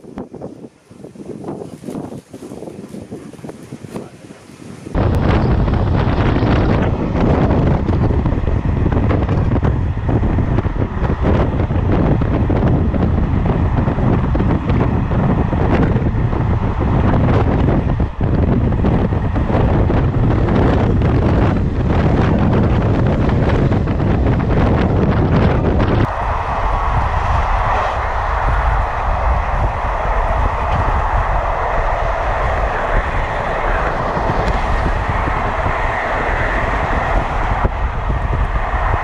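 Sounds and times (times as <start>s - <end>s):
train coaches rumbling on track: 0.0s - 39.0s
wind buffeting microphone: 0.0s - 39.0s.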